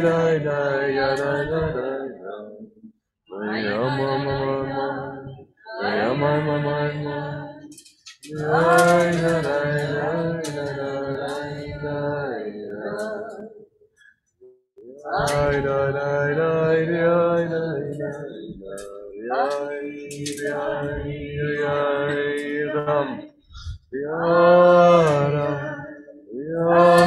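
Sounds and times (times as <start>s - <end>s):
group singing unaccompanied: 0.0s - 13.7s, 14.8s - 27.0s.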